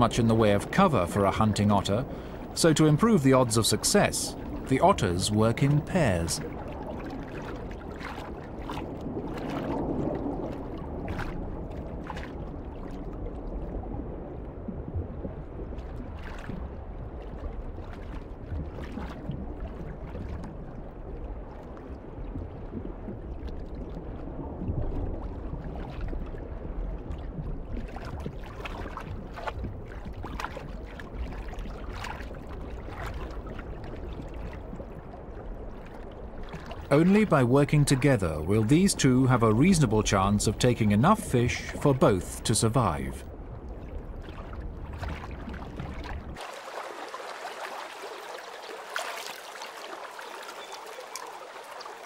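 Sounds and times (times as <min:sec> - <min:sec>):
muffled underwater rush: 0:00.0 - 0:52.0.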